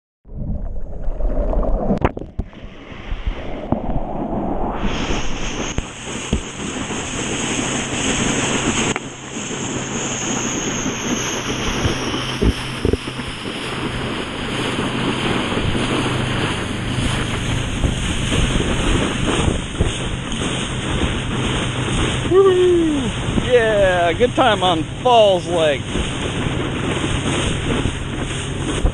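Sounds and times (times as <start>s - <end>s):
water rushing under a board: 0.2s - 28.9s
wind buffeting microphone: 0.3s - 28.9s.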